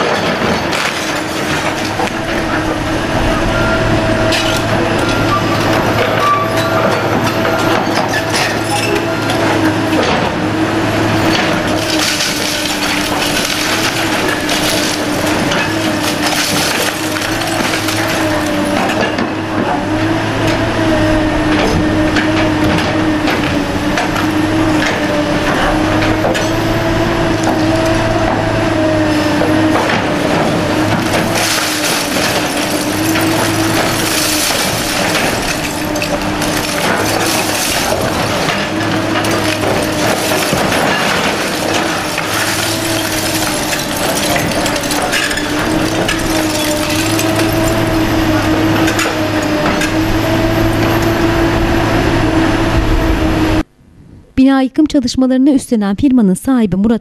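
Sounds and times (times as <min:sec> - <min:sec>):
concrete crunching and cracking: 0:00.0 - 0:20.7, 0:21.5 - 0:51.5
debris falling: 0:00.0 - 0:20.7, 0:21.4 - 0:52.4
excavator whine: 0:00.0 - 0:54.4.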